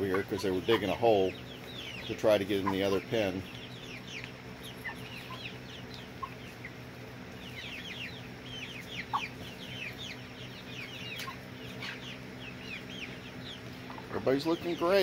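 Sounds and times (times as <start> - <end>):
chicks cheeping: 0.0 - 15.0
steady low hum: 0.0 - 15.0.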